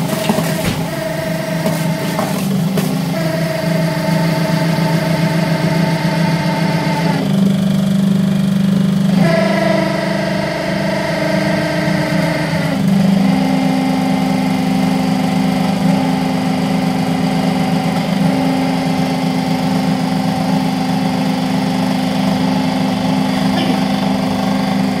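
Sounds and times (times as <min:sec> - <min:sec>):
machine motor humming: 0:00.0 - 0:25.0.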